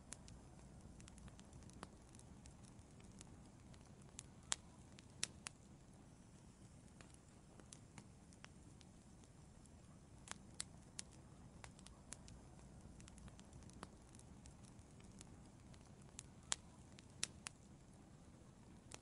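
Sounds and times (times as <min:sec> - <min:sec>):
burning wood crackling and popping: 0:00.0 - 0:19.0
wood fire low rumble: 0:00.0 - 0:19.0.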